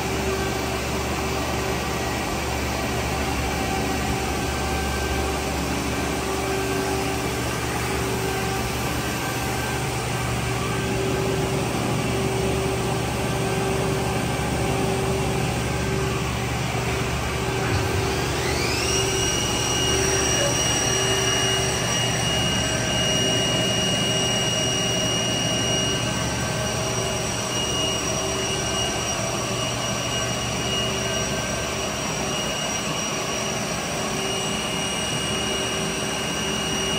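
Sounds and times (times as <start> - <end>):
high spindle whine: 0.0 - 36.9
machinery humming: 0.0 - 36.9.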